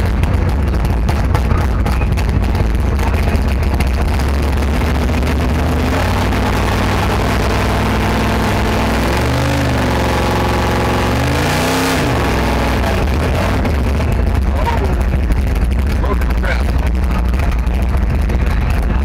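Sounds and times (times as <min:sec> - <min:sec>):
engine running and revving: 0:00.0 - 0:19.0.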